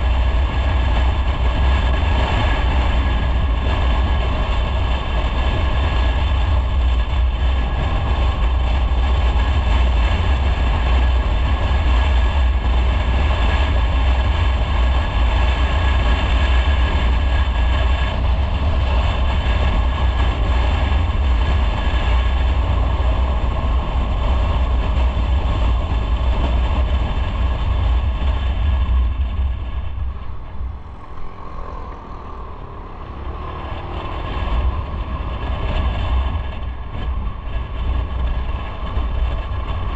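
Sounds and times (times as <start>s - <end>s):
motorcycle engine: 0.0s - 39.9s
wind rumble on microphone: 0.0s - 39.9s.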